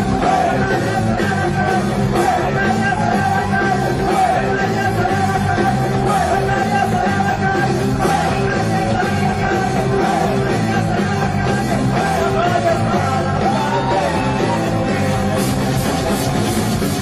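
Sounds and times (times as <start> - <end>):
person singing: 0.0 - 16.0
band music: 0.0 - 17.0
drums: 0.0 - 17.0.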